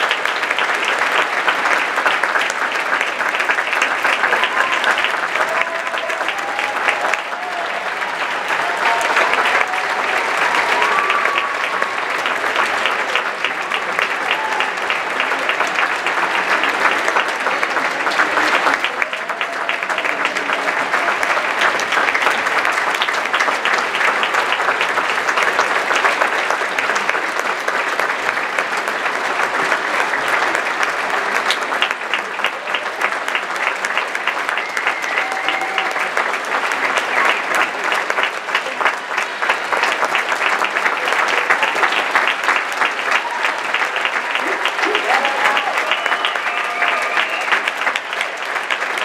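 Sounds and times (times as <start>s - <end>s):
audience applauding: 0.0s - 49.0s.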